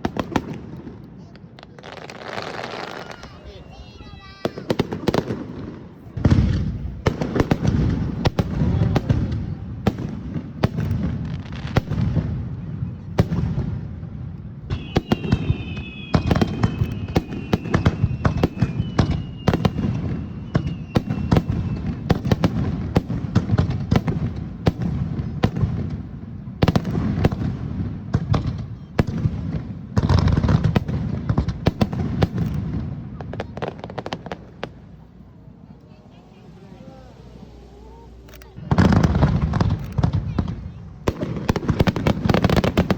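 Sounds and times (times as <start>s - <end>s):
fireworks booming and cracking: 0.0s - 35.2s, 37.2s - 42.9s
fireworks whistling: 0.0s - 42.9s.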